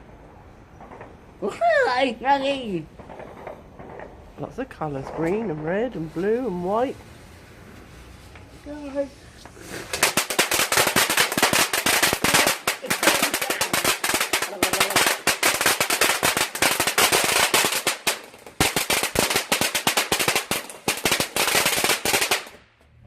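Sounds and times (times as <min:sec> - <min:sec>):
firework crackles and bangs: 0:00.7 - 0:22.7.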